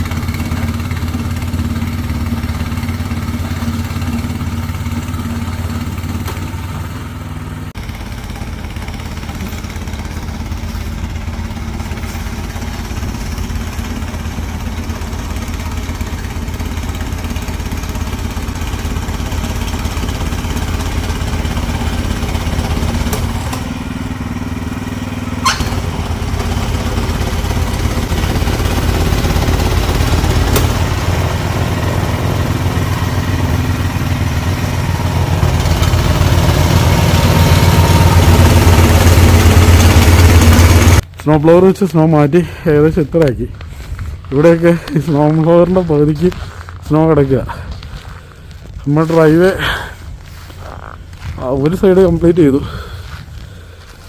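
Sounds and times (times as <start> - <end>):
snow blower engine running: 0.0 - 54.0.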